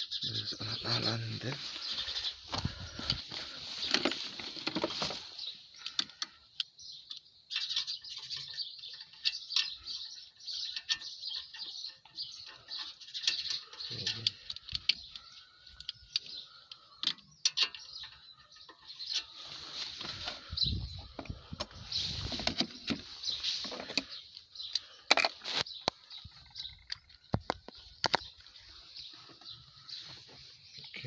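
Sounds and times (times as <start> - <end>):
birdsong: 0.0 - 31.0.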